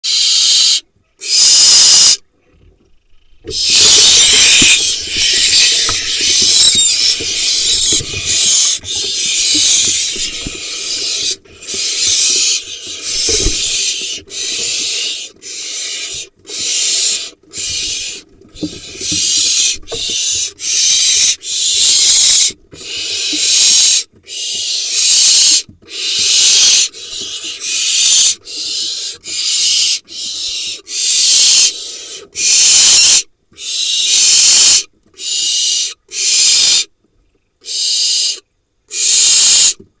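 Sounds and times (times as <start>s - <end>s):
owl chicks hissing begging calls: 0.0s - 2.2s, 3.5s - 36.9s, 37.6s - 39.8s.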